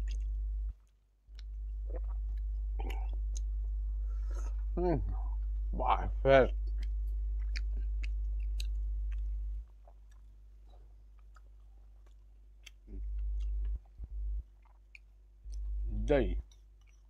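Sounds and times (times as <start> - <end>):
person chewing food: 0.0 - 4.7, 6.5 - 17.0
low hum: 0.0 - 11.3, 12.6 - 14.6, 15.4 - 16.4.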